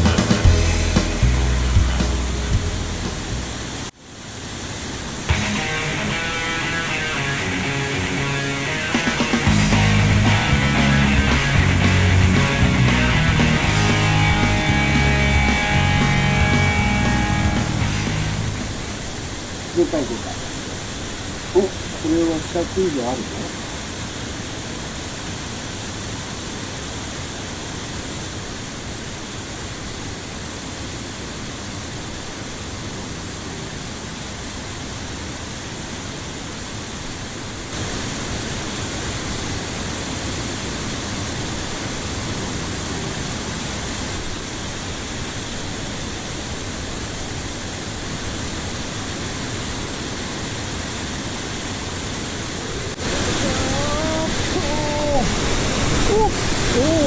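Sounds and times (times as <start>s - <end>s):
stream water flowing: 0.8s - 57.0s.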